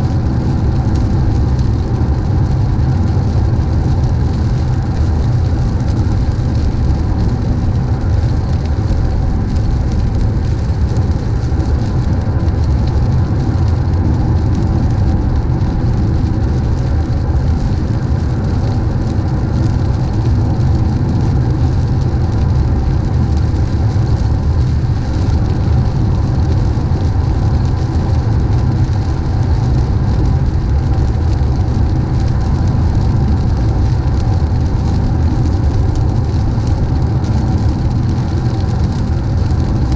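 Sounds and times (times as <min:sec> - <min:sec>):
car road noise rumble: 0:00.0 - 0:39.9
tyres hissing on wet road: 0:00.1 - 0:39.9.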